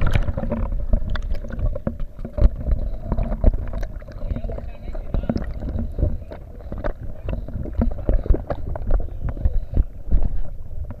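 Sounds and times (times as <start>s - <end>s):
rushing river water: 0.0s - 10.5s.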